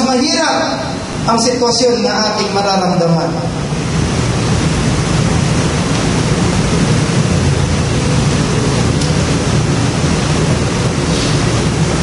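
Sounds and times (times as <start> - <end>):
low hum: 0.0 - 12.0
steady rushing noise: 0.0 - 12.0.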